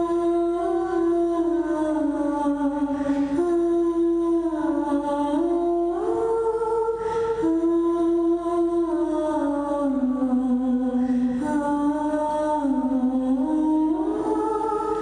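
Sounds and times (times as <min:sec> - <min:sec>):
person humming a slow melody: 0:00.0 - 0:15.0.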